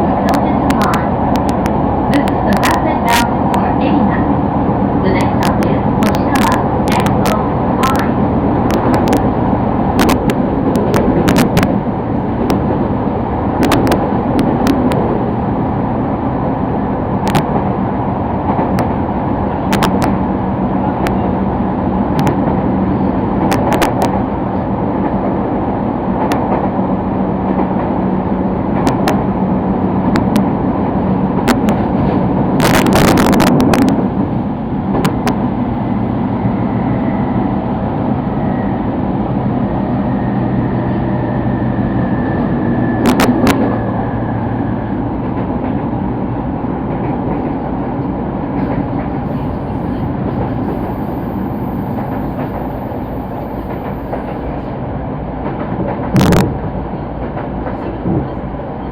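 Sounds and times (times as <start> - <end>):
train rumbling on rails: 0.0 - 58.9.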